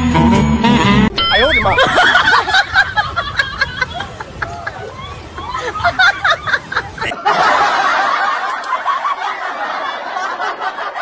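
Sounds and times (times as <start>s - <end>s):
audience laughing: 1.3s - 11.0s.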